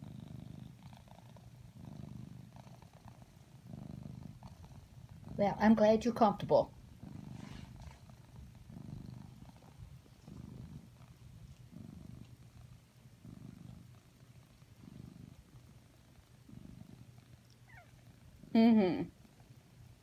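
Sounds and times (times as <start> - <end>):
cat purring softly: 0.0 - 20.0.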